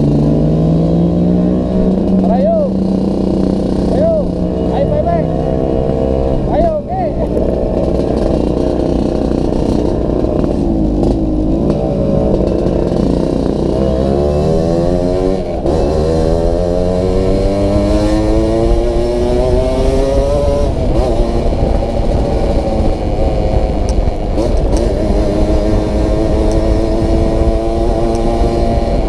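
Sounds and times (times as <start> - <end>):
two-stroke motorcycle engine: 0.0 - 29.0.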